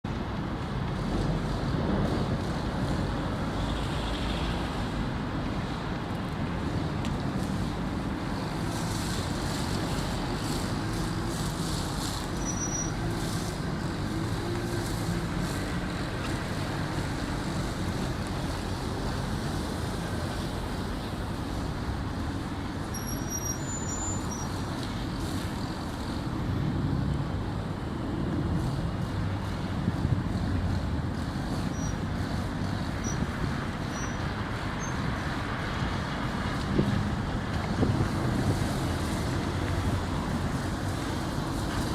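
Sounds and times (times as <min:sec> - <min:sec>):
traffic noise: 0:00.0 - 0:41.9.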